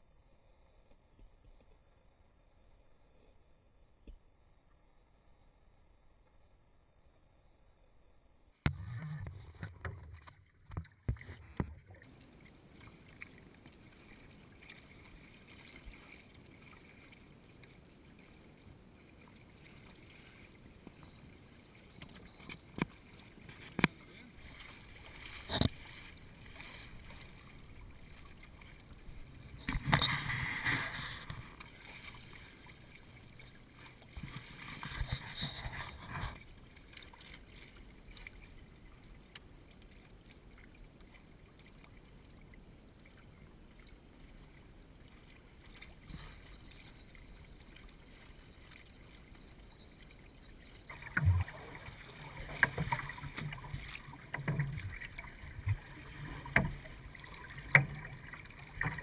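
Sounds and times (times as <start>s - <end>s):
water splashing along a hull: 8.6s - 59.0s.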